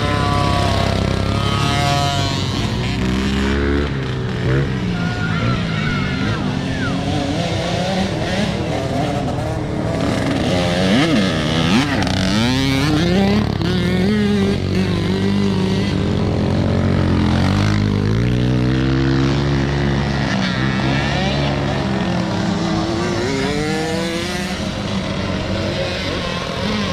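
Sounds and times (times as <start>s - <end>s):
motocross bike engines revving: 0.0s - 26.9s.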